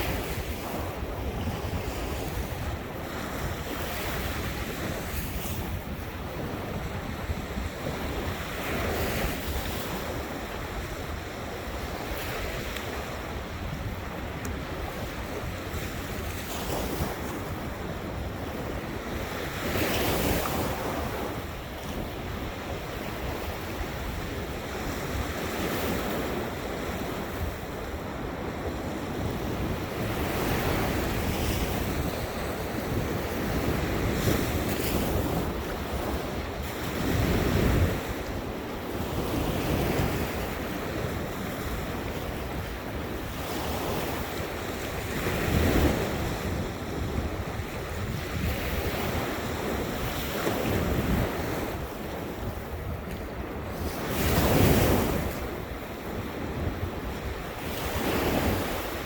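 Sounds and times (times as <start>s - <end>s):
ocean surf breaking: 0.0s - 59.0s
wind rumbling on microphone: 0.0s - 59.0s.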